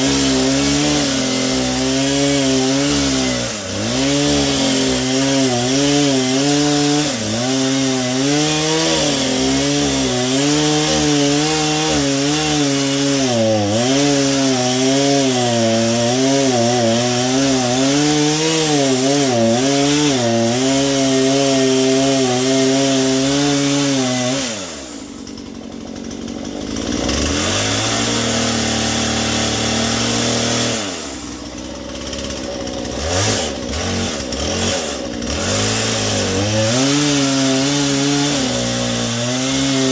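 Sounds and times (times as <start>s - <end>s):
chainsaw cutting log: 0.0s - 39.9s
chainsaw idling and revving: 0.0s - 39.9s.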